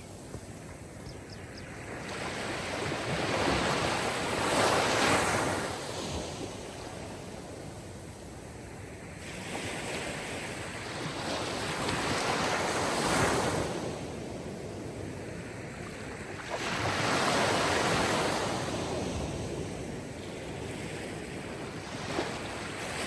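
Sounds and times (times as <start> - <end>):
sea waves washing ashore: 0.0 - 23.0.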